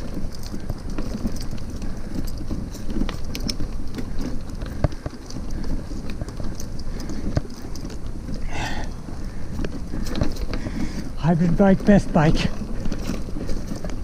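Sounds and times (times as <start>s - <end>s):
bicycle rolling over dirt trail: 0.0s - 14.0s
bike clicks and knocks over bumps: 0.0s - 14.0s.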